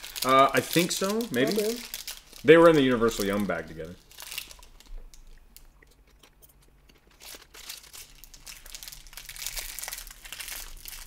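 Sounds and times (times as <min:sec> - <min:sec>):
foil wrapper crinkling: 0:00.0 - 0:05.7, 0:07.0 - 0:11.0.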